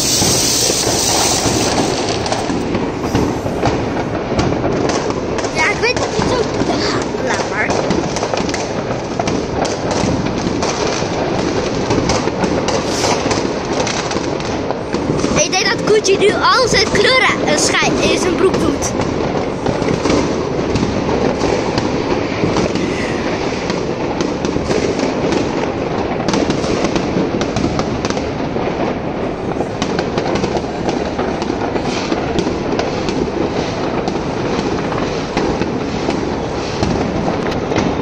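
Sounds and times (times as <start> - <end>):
fireworks bangs and crackles: 0.0 - 38.0
sharp firework cracks: 0.0 - 38.0.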